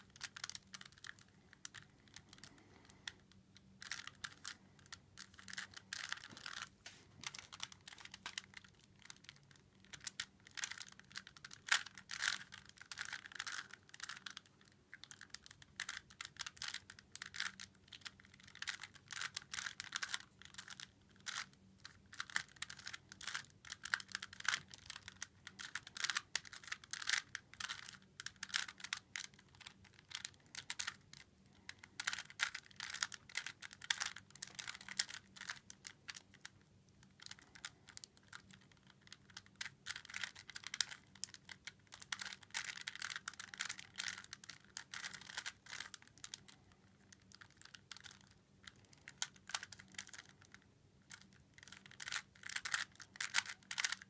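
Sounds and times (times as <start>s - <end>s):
plastic puzzle cube clicks: 5.2s - 36.6s, 37.2s - 54.0s.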